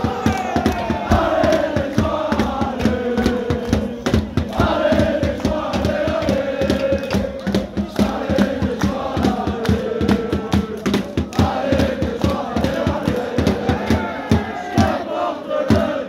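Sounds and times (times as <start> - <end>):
crowd chanting: 0.0 - 16.0
rhythmic hand-clapping: 0.0 - 16.0.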